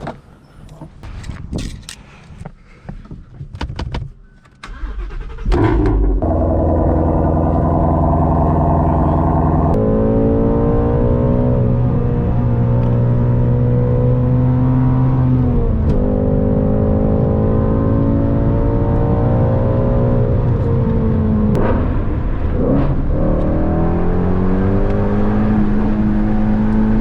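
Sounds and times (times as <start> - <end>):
car engine starting and running: 4.5 - 27.0.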